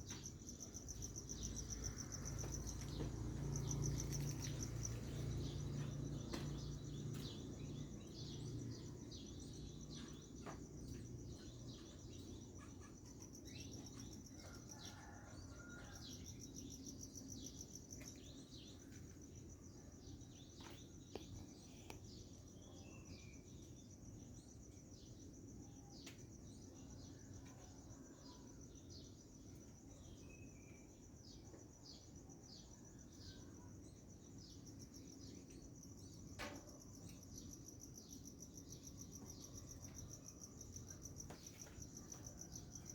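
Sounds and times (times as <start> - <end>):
high-pitched insect trill: 0.0 - 42.9.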